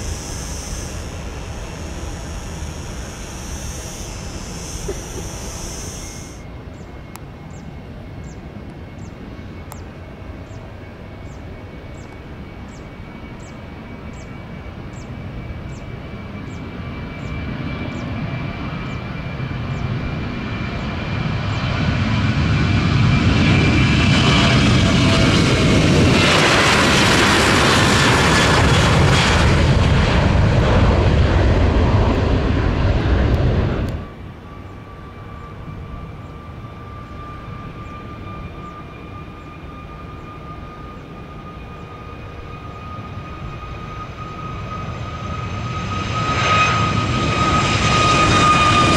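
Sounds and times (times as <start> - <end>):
jet whine falling in pitch: 0.0 - 7.8, 12.0 - 48.9
jet engines at takeoff: 0.0 - 48.9.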